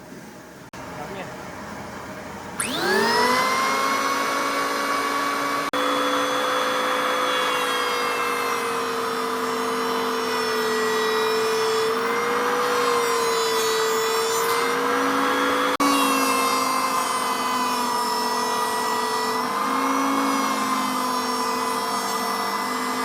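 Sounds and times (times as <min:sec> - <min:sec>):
power tool whining: 0:02.5 - 0:23.0.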